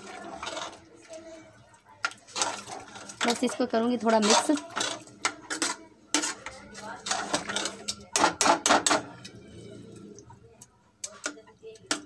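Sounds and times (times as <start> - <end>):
metal ladle scraping pot: 0.0 - 1.4, 2.0 - 10.4.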